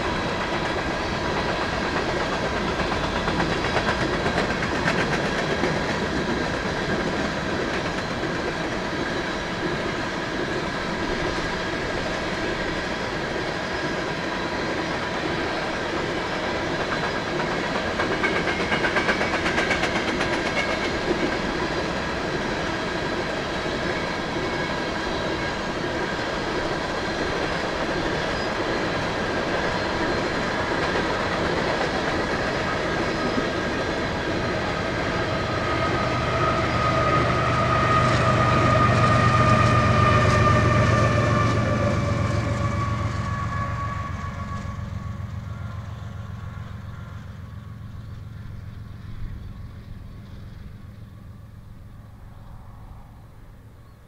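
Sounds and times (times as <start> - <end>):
train cars clickety-clack: 0.0 - 50.7
diesel locomotive engine drone: 0.0 - 54.0.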